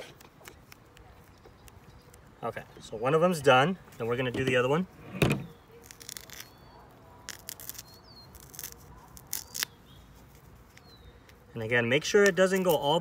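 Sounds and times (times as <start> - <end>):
birds chirping faintly: 0.1 - 13.0.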